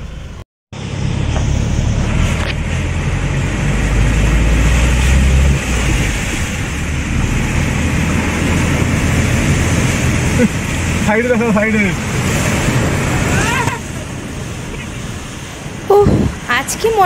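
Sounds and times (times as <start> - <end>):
car engine and road drone: 0.0 - 17.0
water rushing around car: 0.8 - 17.0.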